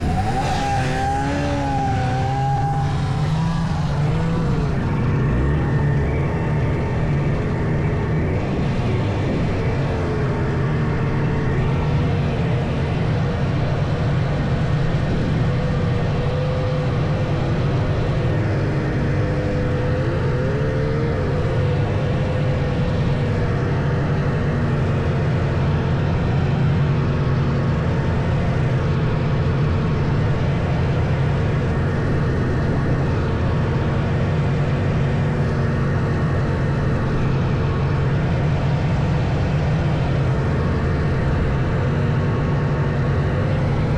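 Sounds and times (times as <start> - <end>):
snowmobile engines running: 0.0 - 43.9.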